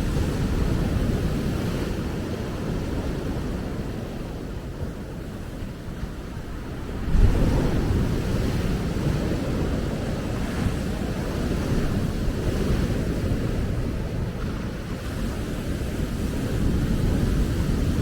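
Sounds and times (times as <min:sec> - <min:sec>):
ocean surf breaking on beach: 0:00.0 - 0:18.0
wind rumbling on microphone: 0:00.0 - 0:18.0.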